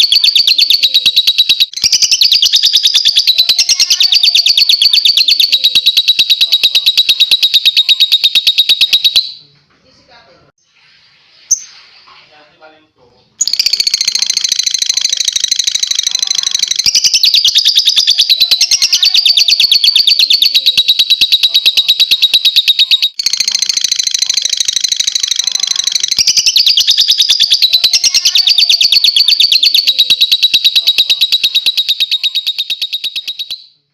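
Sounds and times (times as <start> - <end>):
lovebird shrill chattering: 0.0 - 9.4, 13.4 - 33.8.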